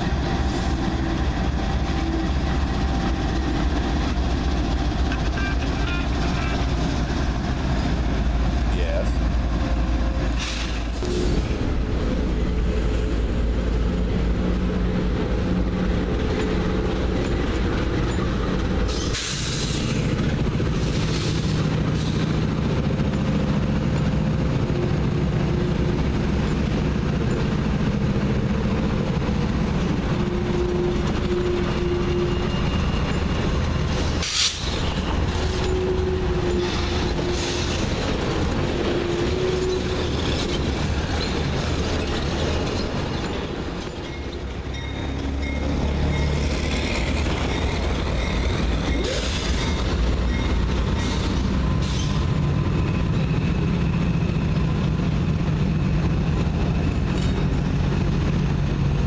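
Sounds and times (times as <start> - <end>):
diesel locomotive engines droning: 0.0 - 59.0
train wheels rumbling on rails: 0.0 - 59.0.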